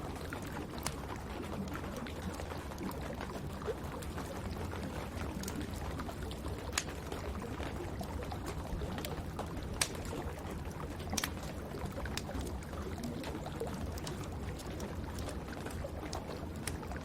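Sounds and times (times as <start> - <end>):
wood fire crackling and popping: 0.1 - 17.0.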